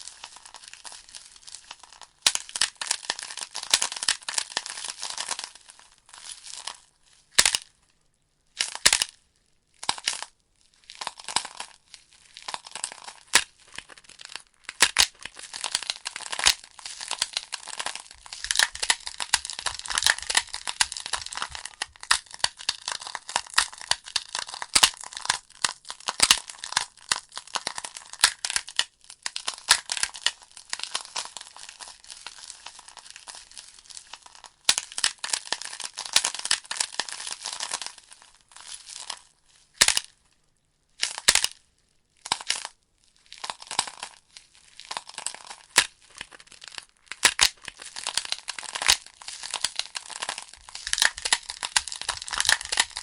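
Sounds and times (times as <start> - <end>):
logs crackling and popping: 0.0 - 6.8, 10.8 - 40.1, 43.3 - 53.0.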